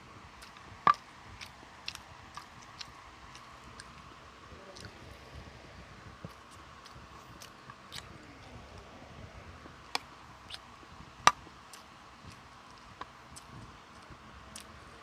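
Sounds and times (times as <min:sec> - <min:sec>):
mouth clicks and smacks eating: 0:00.3 - 0:05.5, 0:06.1 - 0:08.9, 0:09.6 - 0:15.0.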